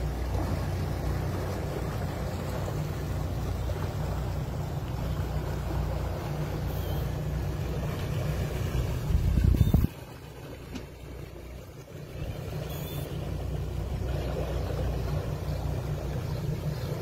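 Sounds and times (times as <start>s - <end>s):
outboard engines rumbling: 0.0s - 17.0s.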